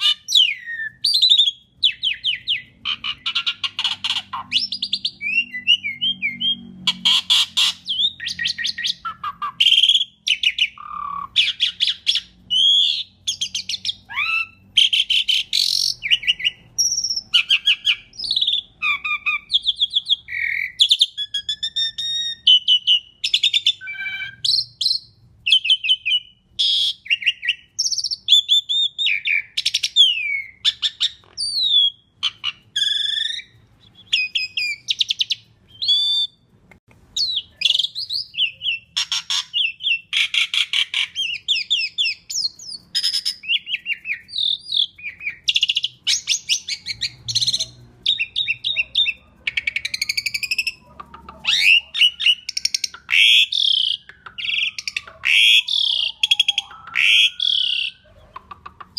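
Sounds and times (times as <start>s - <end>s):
starling singing: 0.0s - 36.4s, 37.2s - 58.9s.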